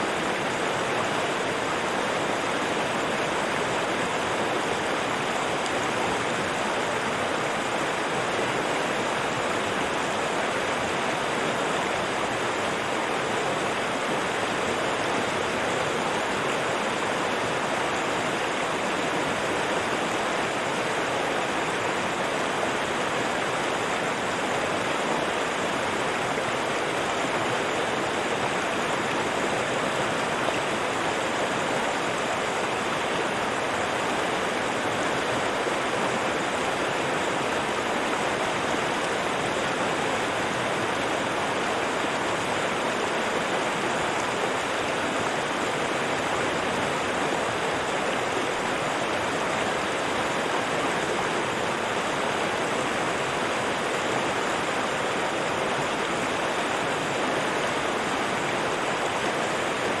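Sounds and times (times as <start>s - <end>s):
river water rushing and babbling: 0.0s - 60.0s.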